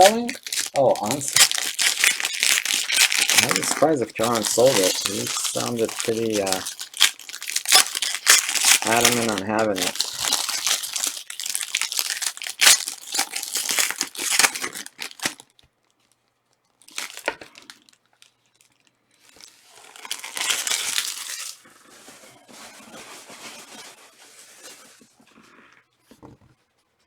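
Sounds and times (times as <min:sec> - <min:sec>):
plastic wrappers tearing and crinkling: 0:00.0 - 0:16.2, 0:16.8 - 0:25.1.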